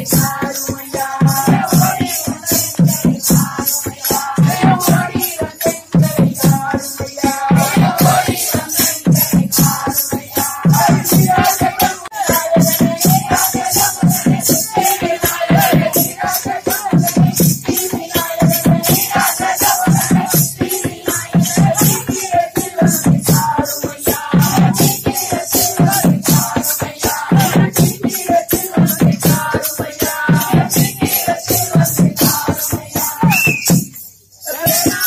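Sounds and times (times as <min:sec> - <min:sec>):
driving drum beat: 0:00.0 - 0:33.9.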